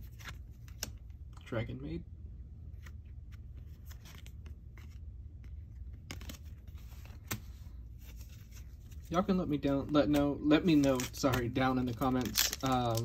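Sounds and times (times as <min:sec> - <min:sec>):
trading cards rustling and clicking: 0:00.0 - 0:01.5, 0:02.7 - 0:13.0
low room hum: 0:00.0 - 0:13.0.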